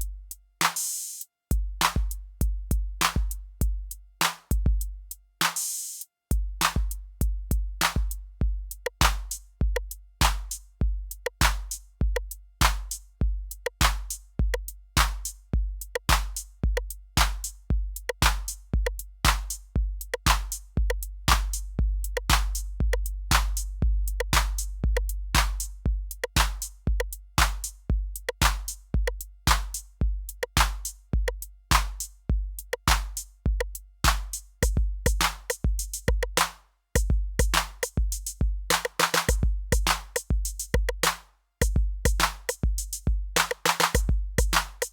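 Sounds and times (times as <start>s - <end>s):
drum machine bass drum: 0.0s - 44.9s
drum machine hi-hat and percussion: 0.0s - 44.9s.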